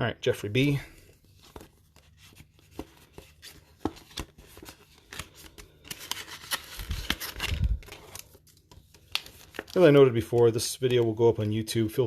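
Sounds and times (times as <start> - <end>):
packaging crinkling and rustling: 1.3 - 11.2.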